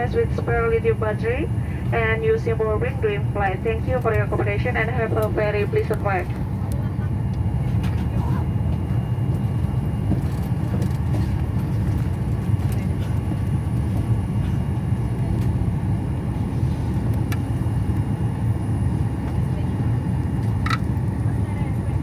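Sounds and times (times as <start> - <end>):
airliner cabin low rumble: 0.0 - 22.0.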